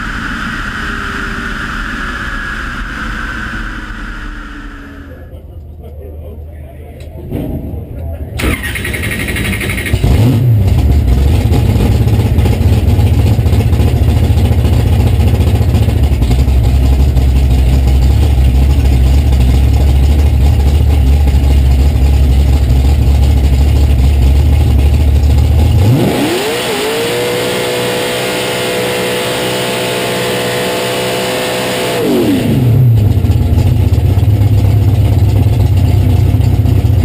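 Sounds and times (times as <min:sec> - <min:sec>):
race car engine starting and idling: 0:00.0 - 0:37.0.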